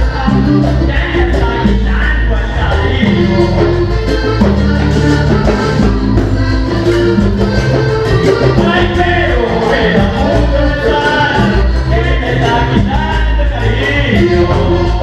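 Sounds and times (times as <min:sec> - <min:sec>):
accordion melody: 0:00.0 - 0:15.0
electric bass: 0:00.0 - 0:15.0
fast percussion: 0:00.0 - 0:15.0.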